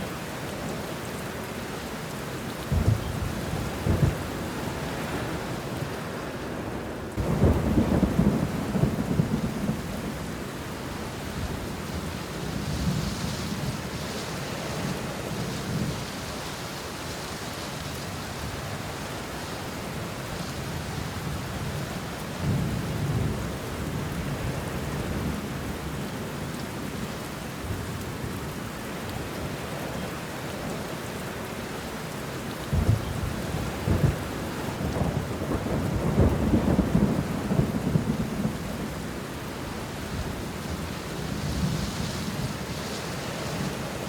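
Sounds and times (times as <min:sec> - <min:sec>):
rain pattering on leaves: 0:00.0 - 0:44.0.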